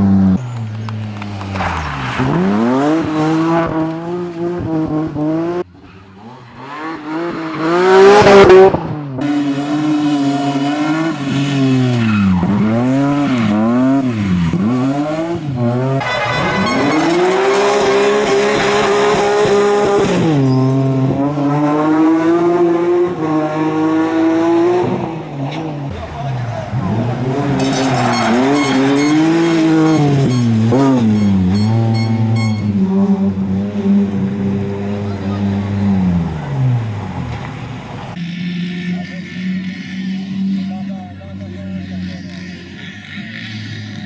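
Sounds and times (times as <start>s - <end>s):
rally car engine at full throttle: 0.0s - 44.0s.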